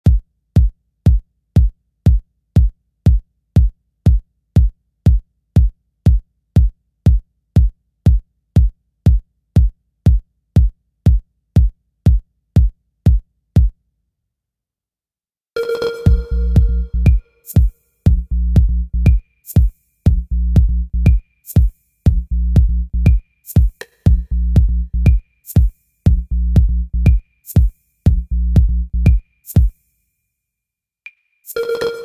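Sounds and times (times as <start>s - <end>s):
electronic kick drum beating: 0.0s - 13.7s, 15.6s - 29.7s.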